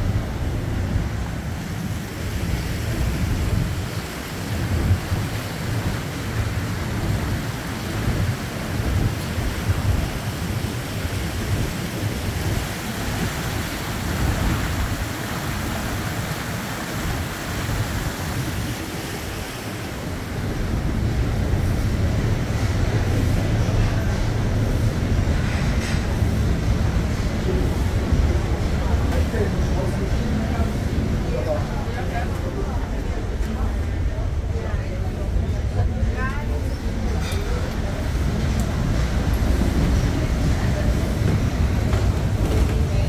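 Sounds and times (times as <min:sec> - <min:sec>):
boat engine rumble: 0:00.0 - 0:43.0
water rushing past hull: 0:00.0 - 0:43.0
wind buffeting microphone: 0:00.0 - 0:43.0.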